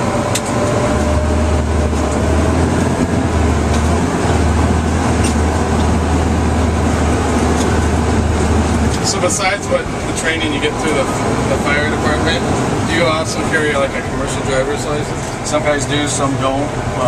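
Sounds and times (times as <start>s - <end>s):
diesel engine rumble: 0.0s - 17.0s
road noise: 0.0s - 17.0s.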